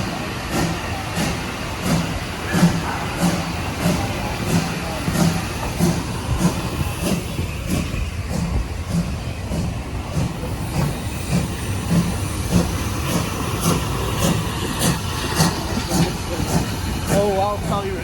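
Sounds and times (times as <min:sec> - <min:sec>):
steam train running: 0:00.0 - 0:18.0.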